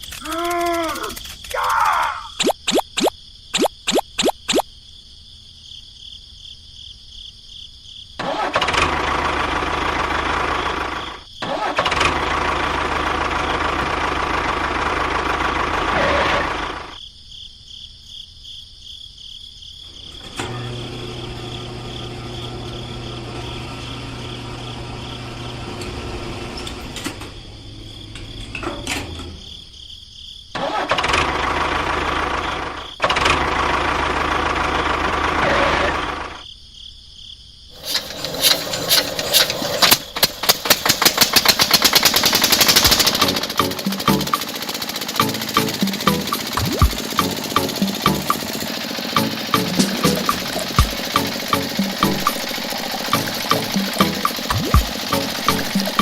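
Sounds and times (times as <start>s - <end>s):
small engine running: 0.0s - 4.6s, 8.2s - 17.0s, 19.9s - 29.4s, 30.6s - 36.4s, 37.7s - 56.0s.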